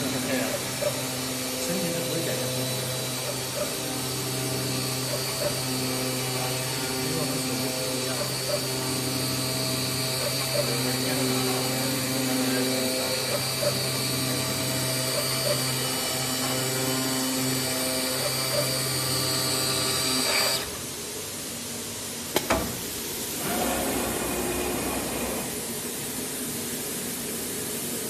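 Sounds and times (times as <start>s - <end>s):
cutter motors whining: 0.0s - 21.1s, 23.3s - 25.7s.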